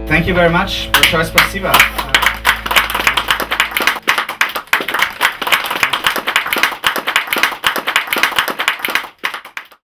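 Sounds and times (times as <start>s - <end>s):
people applauding: 1.0s - 9.8s.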